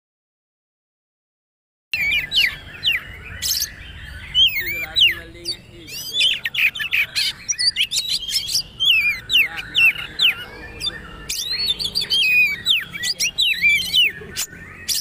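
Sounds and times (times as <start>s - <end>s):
songbird singing: 1.9s - 15.0s.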